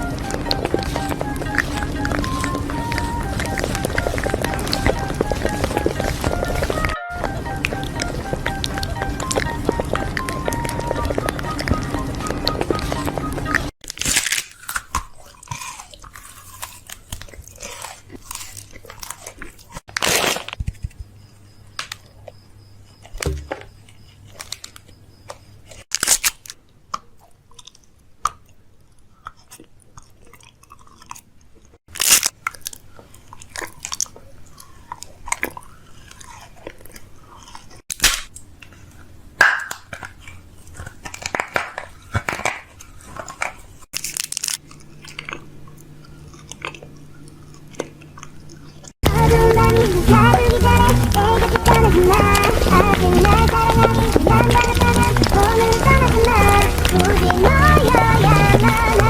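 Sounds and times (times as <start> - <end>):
crunchy chewing and biting: 0.0 - 59.0.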